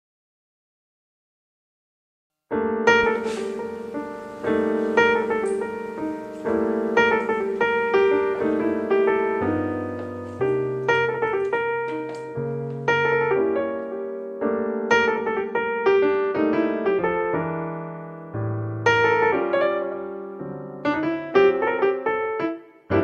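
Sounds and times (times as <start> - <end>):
piano chords: 2.5 - 23.0
deep piano bass notes: 2.6 - 23.0.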